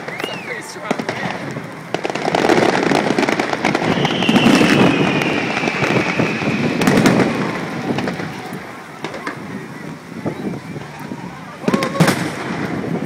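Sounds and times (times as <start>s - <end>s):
falling firework whistle: 0.0s - 0.9s, 2.4s - 9.6s, 10.3s - 12.9s
fireworks booming and crackling: 0.0s - 13.0s.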